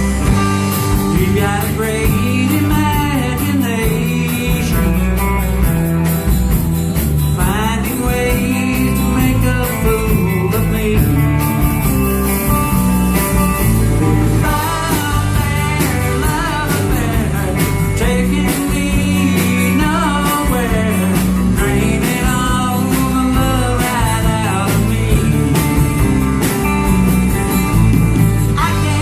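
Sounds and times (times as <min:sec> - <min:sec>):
band playing country-rock song: 0:00.0 - 0:29.0.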